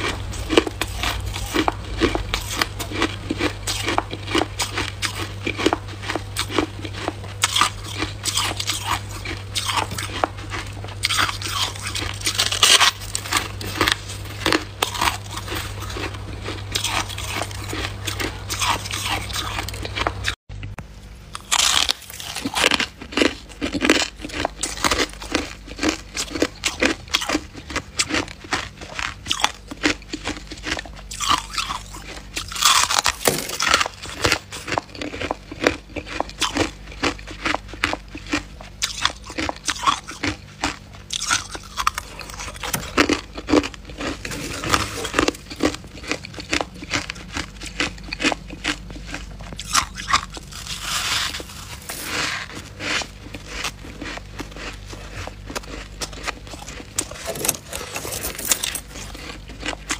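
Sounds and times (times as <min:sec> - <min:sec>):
frost being chewed crunching: 0:00.0 - 0:59.9.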